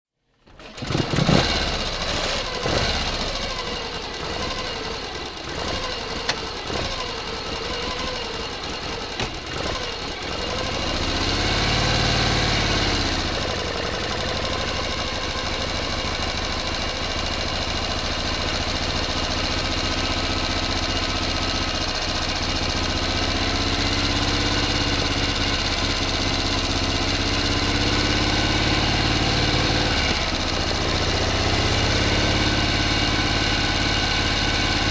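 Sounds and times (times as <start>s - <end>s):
engine knocking: 0.5s - 34.9s
motor engine running: 0.5s - 34.9s.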